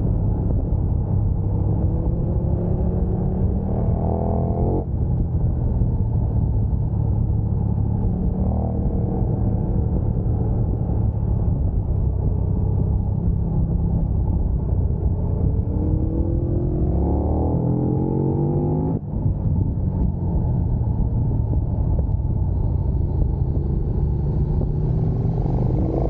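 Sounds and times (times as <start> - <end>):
motorcycle engine accelerating: 0.0 - 26.0
wind rumble: 0.0 - 26.0.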